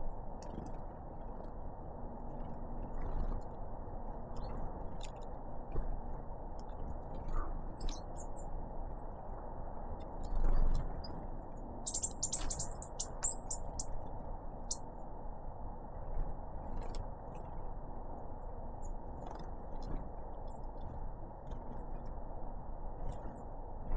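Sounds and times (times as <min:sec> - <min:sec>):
low background rumble: 0:00.0 - 0:23.9.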